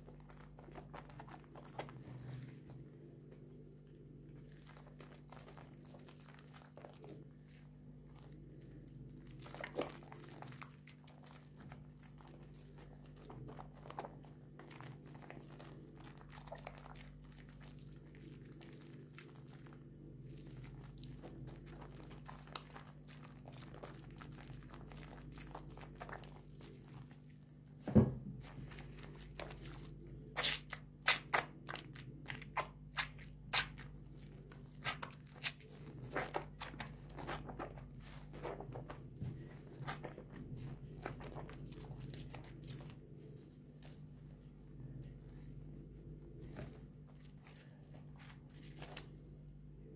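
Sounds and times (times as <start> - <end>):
soap lather squelching: 0.0 - 27.8, 28.4 - 49.1.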